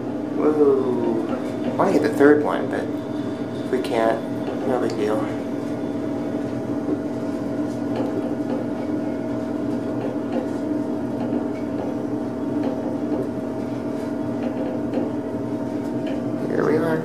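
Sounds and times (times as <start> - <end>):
elevator hum: 0.0 - 17.0.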